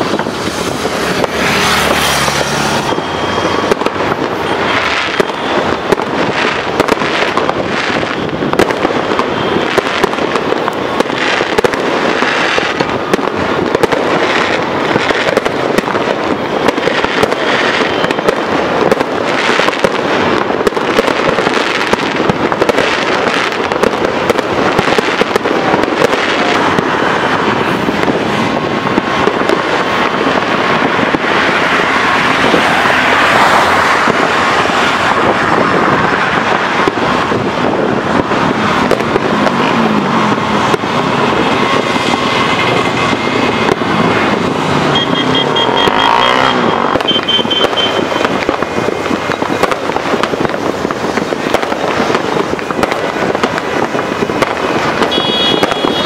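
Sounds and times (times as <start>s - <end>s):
fireworks cracking and banging: 0.0s - 56.0s.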